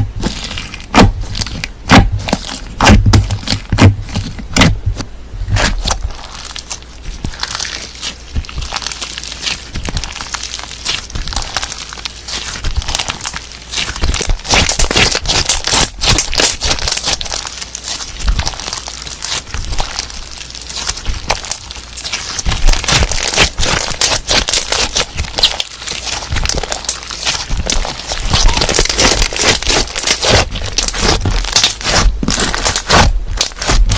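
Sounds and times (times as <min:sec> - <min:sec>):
slime crackling and popping: 0:00.0 - 0:33.9.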